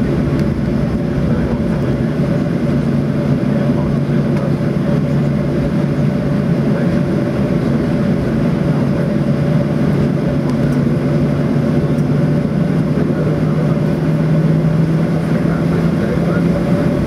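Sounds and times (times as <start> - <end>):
airplane cabin noise taxiing: 0.0 - 17.0.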